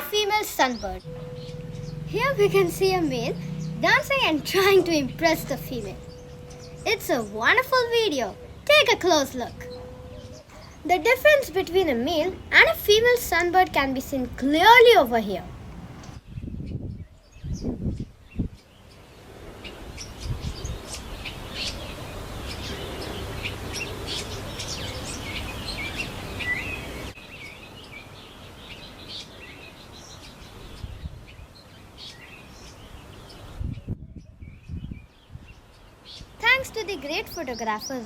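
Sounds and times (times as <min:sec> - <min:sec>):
outdoor background noise: 0:00.0 - 0:38.0
small birds chirping: 0:00.0 - 0:38.0.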